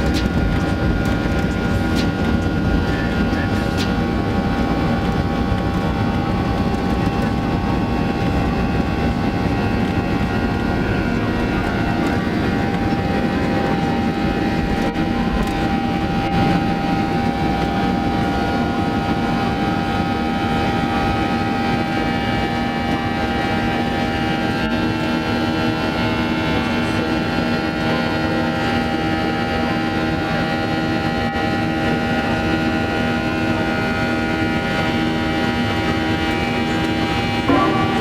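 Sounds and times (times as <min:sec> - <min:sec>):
jet engines running: 0:00.0 - 0:38.0.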